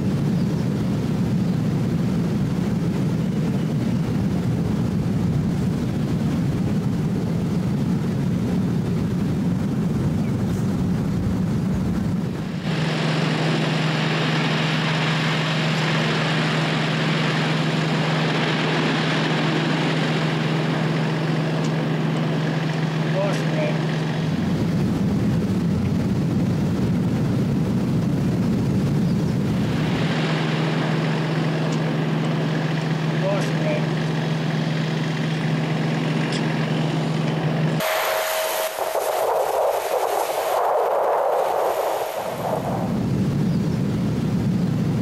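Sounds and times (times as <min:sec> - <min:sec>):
engine-like hum: 0:00.0 - 0:45.0
wildfire low rumble: 0:00.0 - 0:45.0.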